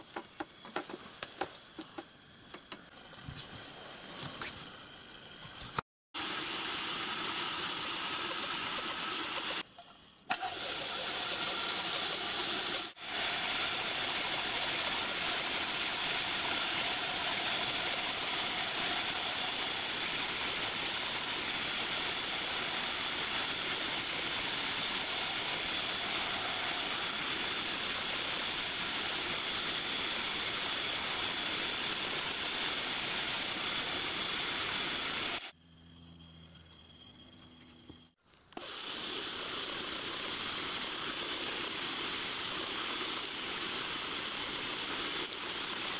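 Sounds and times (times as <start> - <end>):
milling machine whine: 4.4 - 9.7, 10.3 - 45.9.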